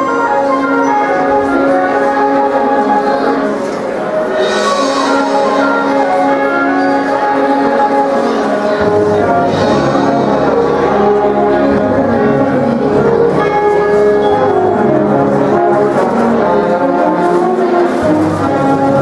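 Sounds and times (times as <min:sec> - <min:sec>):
brass and wind chords: 0:00.0 - 0:19.0.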